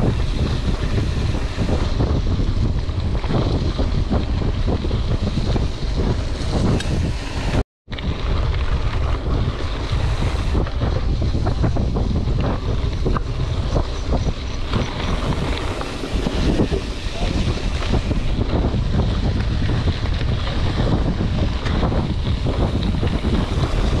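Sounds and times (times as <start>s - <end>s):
bike knocking and rattling: 0.0s - 24.0s
bike tyres rumbling over gravel: 0.0s - 24.0s
wind buffeting microphone: 0.0s - 24.0s.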